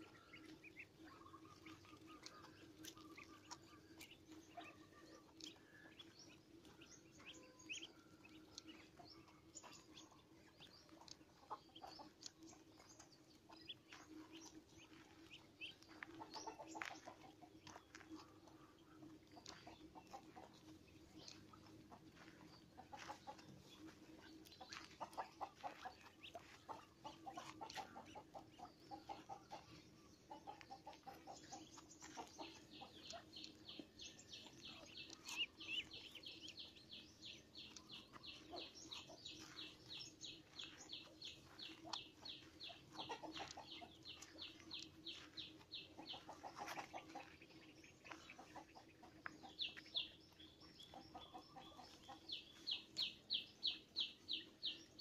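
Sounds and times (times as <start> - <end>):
ducklings high peeps: 0.0 - 55.0.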